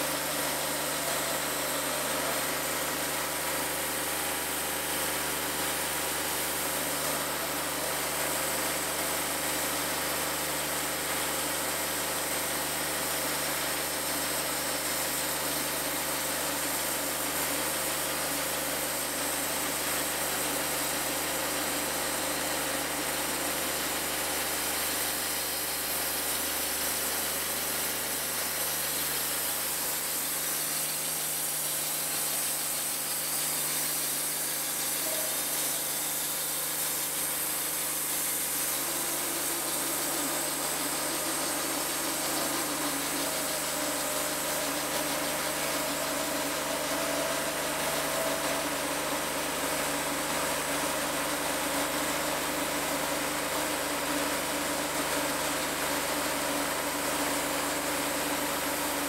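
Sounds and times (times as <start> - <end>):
bandsaw sawmill running: 0.0 - 59.0.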